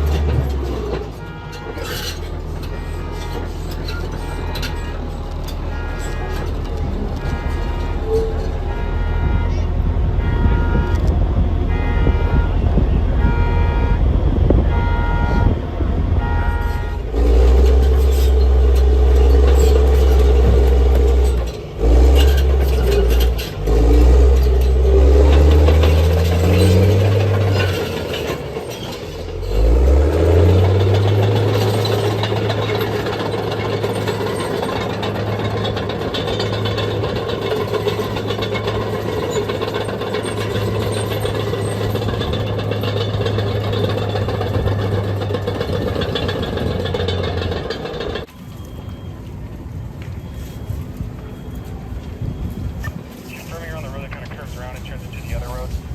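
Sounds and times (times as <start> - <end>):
bulldozer diesel engine revving: 0.0 - 48.3.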